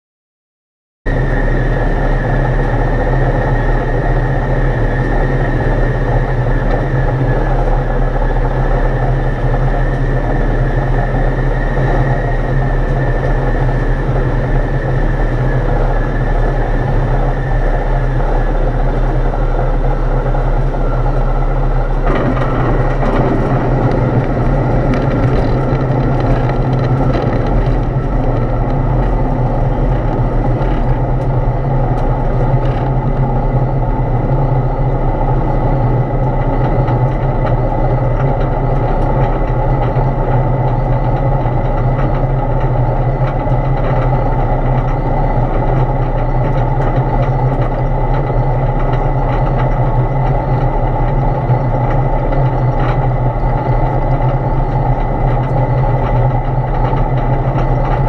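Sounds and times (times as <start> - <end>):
light aircraft engine and propeller: 1.1 - 58.0
wheels knocking and rattling: 1.1 - 58.0.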